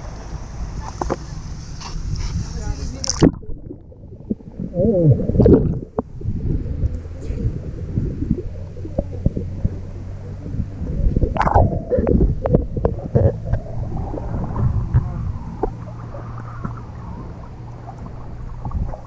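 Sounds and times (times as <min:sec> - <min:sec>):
sea water sloshing and gurgling: 0:00.0 - 0:19.0
water splashes: 0:00.0 - 0:19.0.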